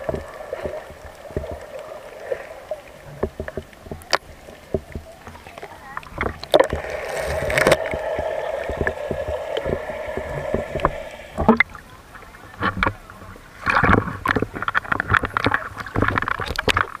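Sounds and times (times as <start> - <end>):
underwater drone: 0.0 - 14.0
water splashing and sloshing: 0.0 - 17.0.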